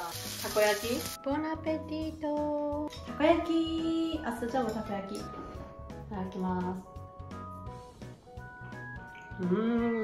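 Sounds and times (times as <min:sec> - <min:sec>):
light instrumental tune: 0:00.5 - 0:10.0.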